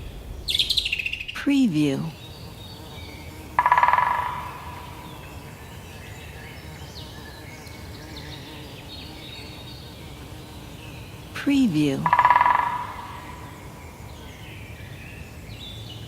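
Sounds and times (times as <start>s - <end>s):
faint bird chirps: 0.0s - 16.0s
forest background hiss: 0.0s - 16.0s
insect buzzing: 0.0s - 16.0s.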